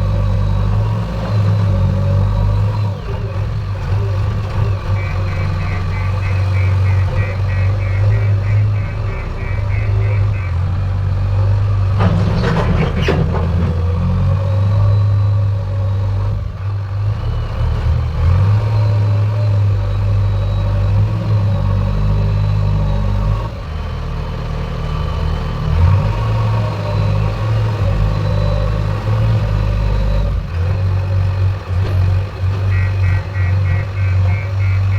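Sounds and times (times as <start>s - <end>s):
heavy diesel engine running: 0.0s - 34.9s.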